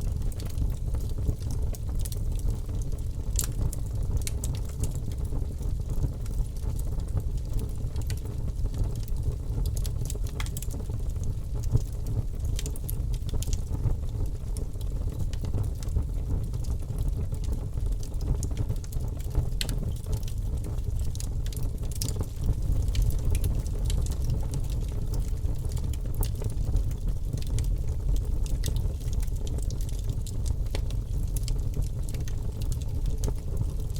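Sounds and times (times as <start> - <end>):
burning wood crackling and popping: 0.0 - 33.9
low rumble of flames: 0.0 - 33.9.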